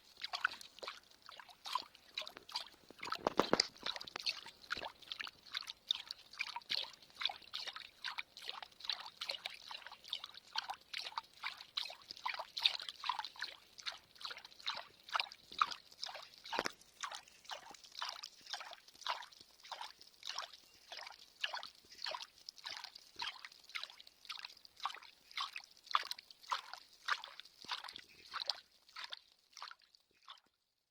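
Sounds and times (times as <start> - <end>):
water plinks and drips: 0.0 - 30.7.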